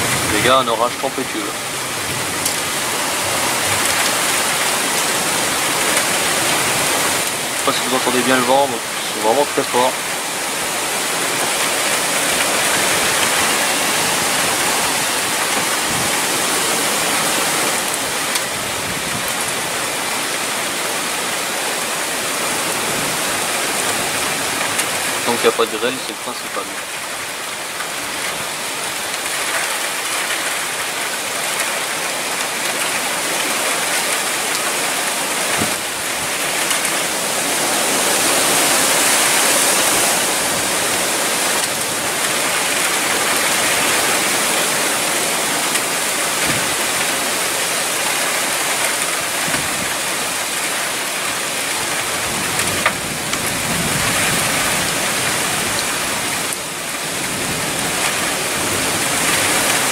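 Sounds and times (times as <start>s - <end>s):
storm wind and rain rushing: 0.0s - 59.9s.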